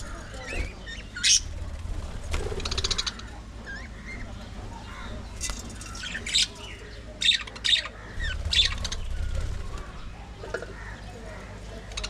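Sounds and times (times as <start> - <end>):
budgerigars calling harshly: 0.0 - 1.6, 2.4 - 12.0.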